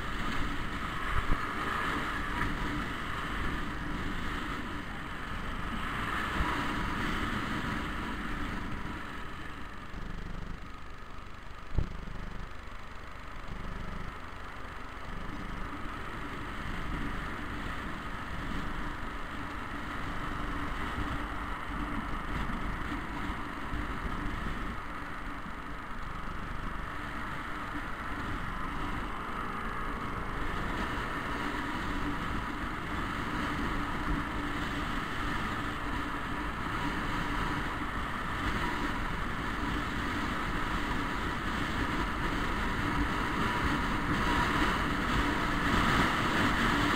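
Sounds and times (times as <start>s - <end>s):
scooter engine drone: 0.0s - 46.9s
wind rumble on microphone: 0.0s - 46.9s.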